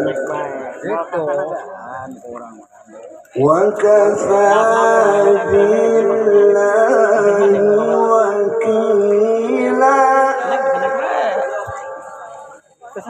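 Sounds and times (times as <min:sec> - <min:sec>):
man reciting melodically over loudspeaker: 0:00.0 - 0:13.0.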